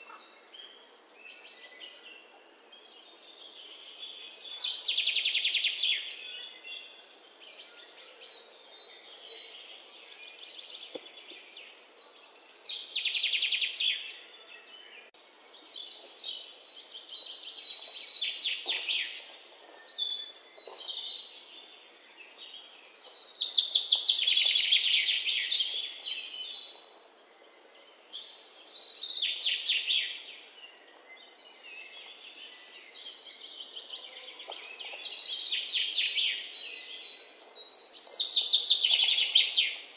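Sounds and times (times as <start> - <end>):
songbird singing high chirps: 0.0 - 39.9.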